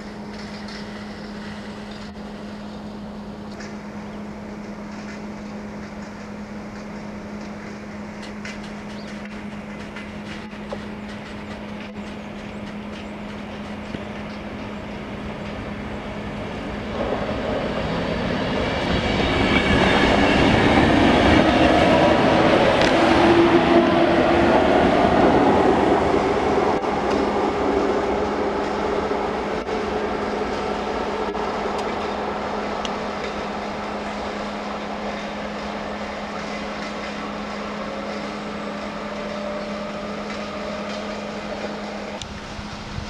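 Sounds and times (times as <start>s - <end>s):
train rumble and wheel noise: 0.0s - 43.0s.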